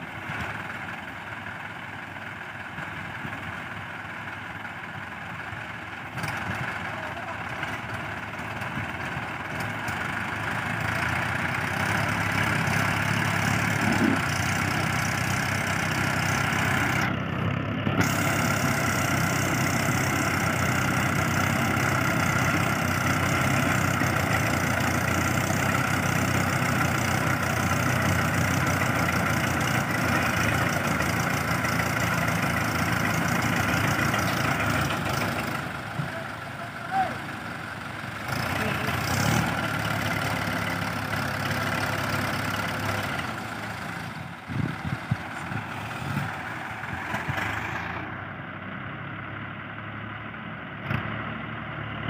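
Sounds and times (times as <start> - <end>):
diesel tractor engines running: 0.0 - 52.0.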